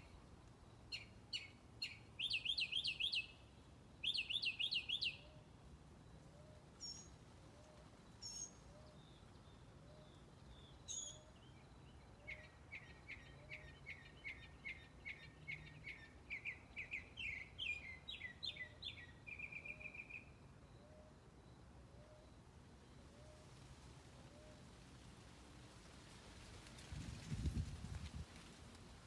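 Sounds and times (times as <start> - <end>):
songbird singing: 0.0 - 23.5.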